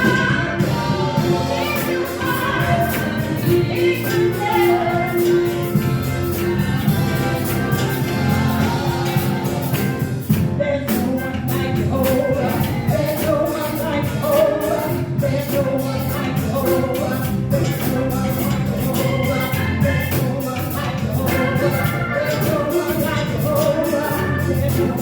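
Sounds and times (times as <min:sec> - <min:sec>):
drum and cymbal beat: 0:00.0 - 0:25.0
voices singing: 0:00.0 - 0:25.0
worship band playing: 0:00.0 - 0:25.0.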